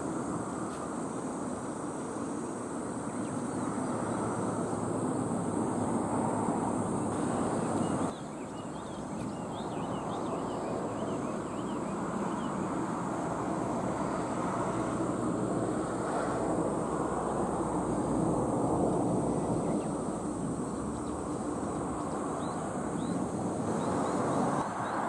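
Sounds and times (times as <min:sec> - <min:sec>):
steady rushing background noise: 0:00.0 - 0:25.0.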